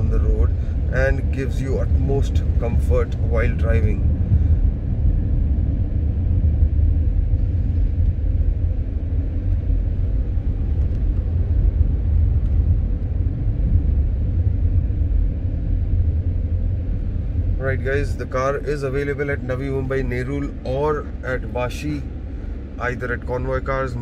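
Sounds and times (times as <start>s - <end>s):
car road and tyre noise: 0.0s - 24.0s.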